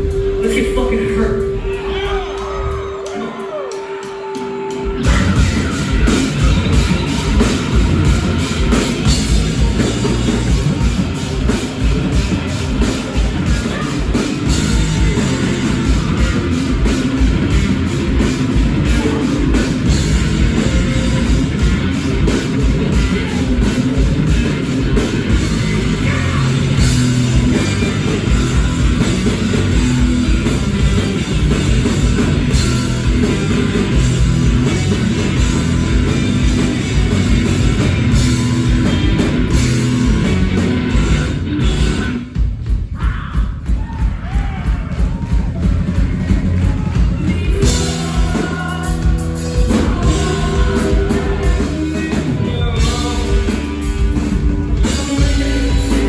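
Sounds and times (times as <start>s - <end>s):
live rock band playing: 0.0s - 43.0s, 44.0s - 56.0s
pounding drum kit: 0.0s - 56.0s.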